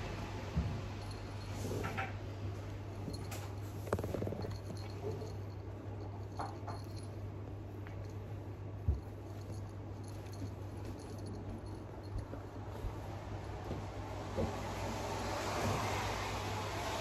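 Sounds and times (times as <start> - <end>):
steady low hum: 0.0 - 14.1
rustles and clicks of petting: 0.5 - 16.2.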